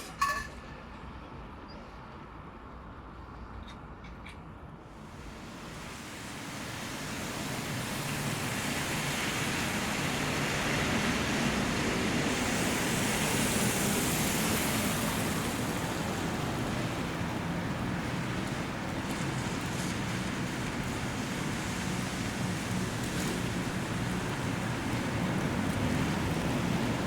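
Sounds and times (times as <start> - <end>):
heavy rain downpour: 5.0 - 27.0.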